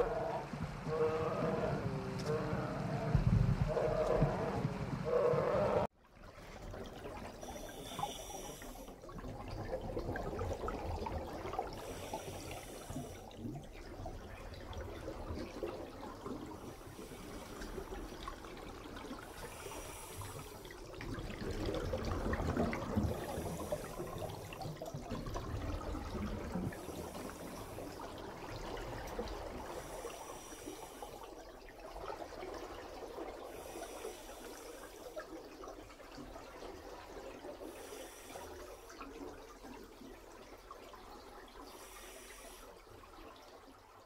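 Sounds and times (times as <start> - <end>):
water trickling and bubbling: 0.0 - 44.0.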